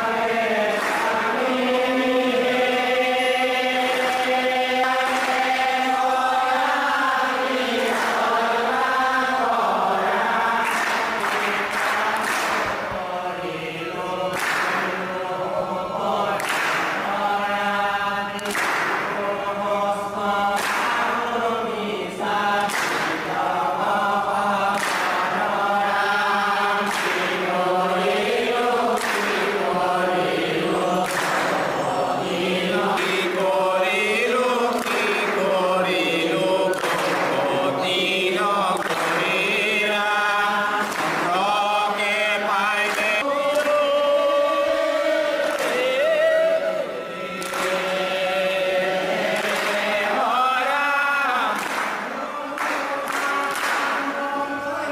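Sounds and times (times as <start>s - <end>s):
men chanting together: 0.0s - 54.9s.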